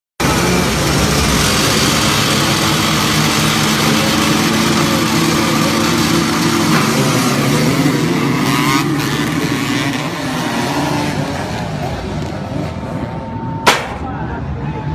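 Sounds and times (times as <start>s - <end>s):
dirt bike engines running: 0.2s - 14.5s.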